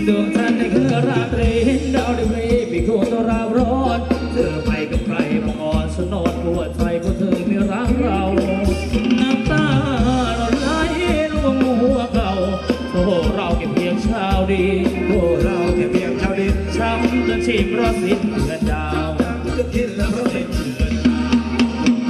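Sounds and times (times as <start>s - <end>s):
person singing: 0.0s - 22.0s
steady drum beat: 0.0s - 22.0s
sustained bass notes: 0.0s - 22.0s.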